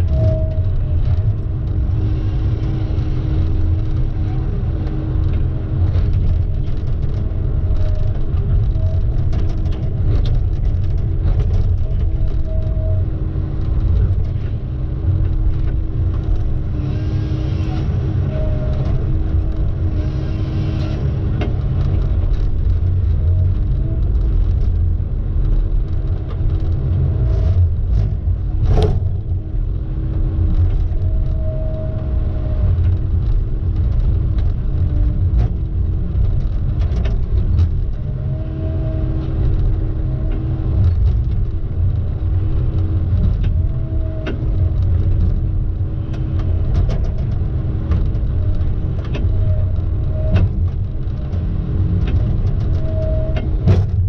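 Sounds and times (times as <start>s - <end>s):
constant hum: 0.0s - 54.0s
heavy engine rumbling: 0.0s - 54.0s.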